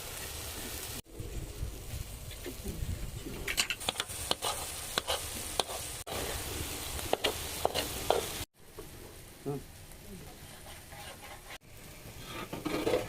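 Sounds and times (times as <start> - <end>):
steady hiss: 0.0 - 12.7.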